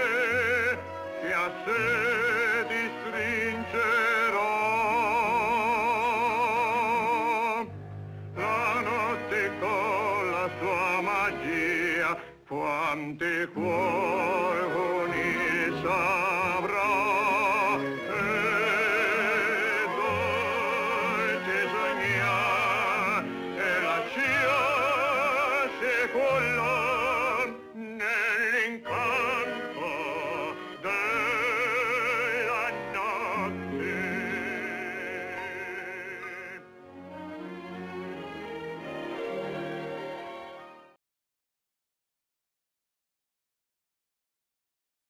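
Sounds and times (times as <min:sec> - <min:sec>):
operatic love song: 0:00.0 - 0:41.0
orchestral accompaniment: 0:00.0 - 0:41.0.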